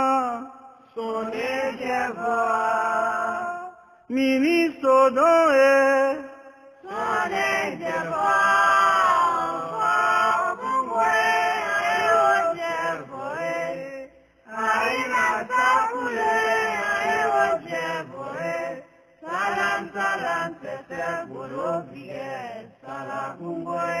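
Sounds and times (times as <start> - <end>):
voices chanting a song: 0.0 - 4.1, 6.1 - 24.0.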